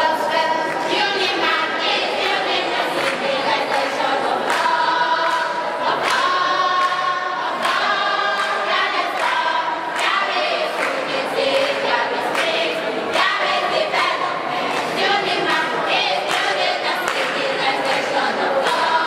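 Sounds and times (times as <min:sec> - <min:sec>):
youth choir singing: 0:00.0 - 0:19.0
sharp claps: 0:02.0 - 0:19.0.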